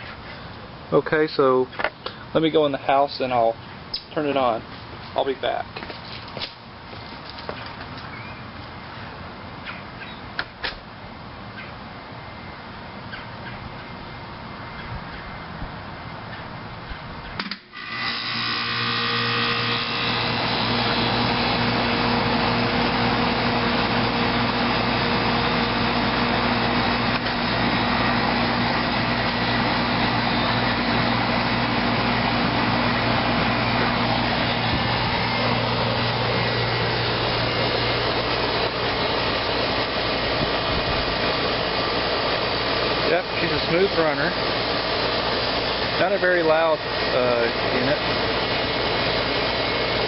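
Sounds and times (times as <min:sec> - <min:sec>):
condenser fan rush of air: 0:00.0 - 0:09.6, 0:10.2 - 0:50.0
compressor hum: 0:00.0 - 0:50.0.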